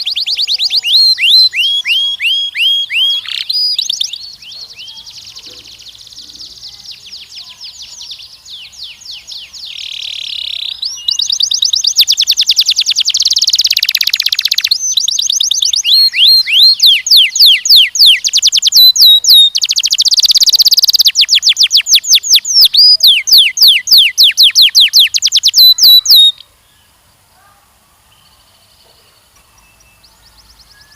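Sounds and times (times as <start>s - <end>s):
canary singing trills: 0.0s - 26.6s.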